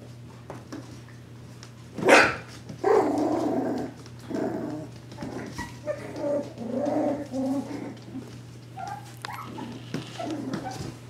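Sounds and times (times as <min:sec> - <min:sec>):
puppies barking and growling: 0:02.0 - 0:11.0.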